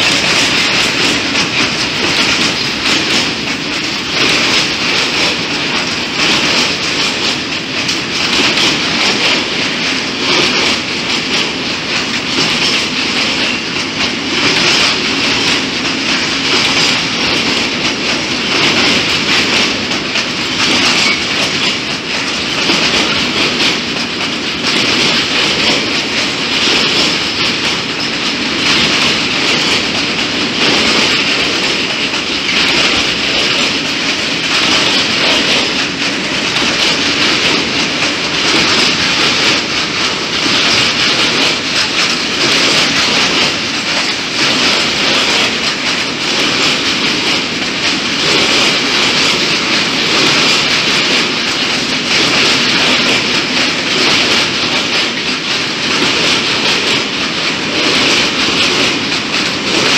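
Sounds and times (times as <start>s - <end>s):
clickety-clack of train wheels: 0.0s - 59.9s
freight train rolling past: 0.0s - 59.9s.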